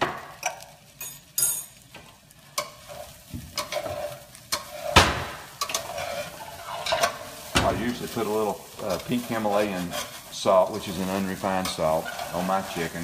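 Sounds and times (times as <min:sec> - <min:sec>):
chicken frying sizzle: 0:00.0 - 0:13.0.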